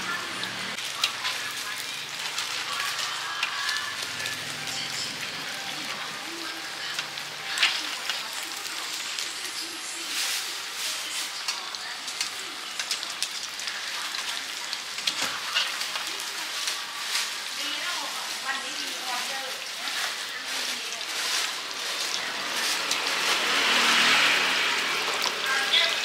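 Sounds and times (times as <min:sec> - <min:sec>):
shrimp sizzling in hot oil: 0:00.0 - 0:26.0.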